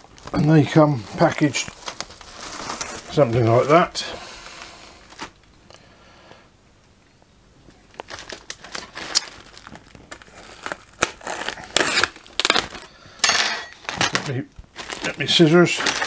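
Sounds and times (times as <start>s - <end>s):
plastic film crinkling: 0.0s - 5.6s, 7.8s - 16.0s.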